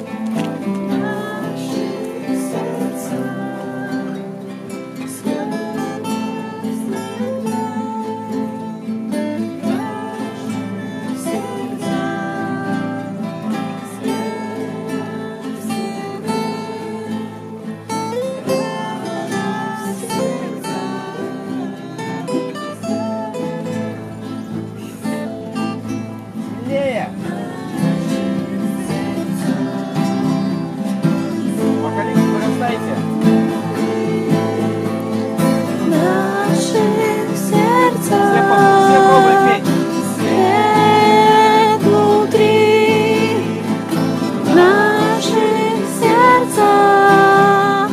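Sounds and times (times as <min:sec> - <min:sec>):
acoustic guitar strumming chords: 0:00.0 - 0:47.9.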